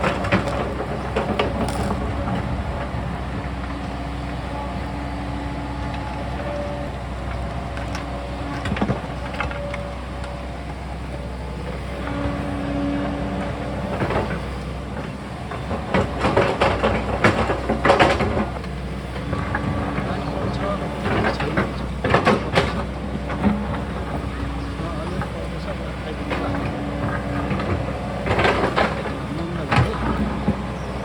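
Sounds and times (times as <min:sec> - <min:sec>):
excavator diesel engine: 0:00.0 - 0:31.0
hydraulic whine: 0:00.0 - 0:31.0.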